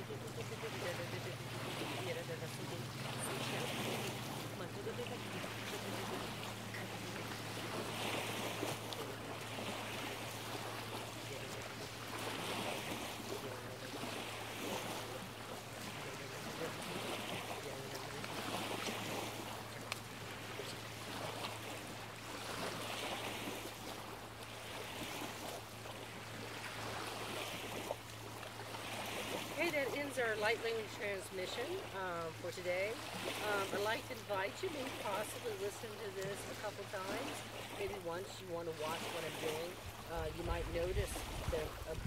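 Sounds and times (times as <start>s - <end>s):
waves lapping on gravel shore: 0.0s - 42.0s.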